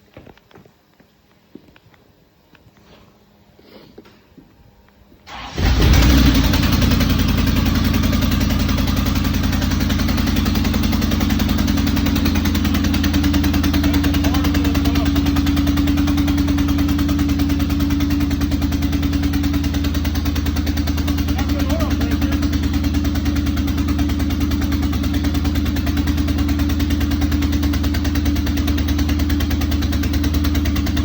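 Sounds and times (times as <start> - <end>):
loud car engine idling: 5.3 - 31.0.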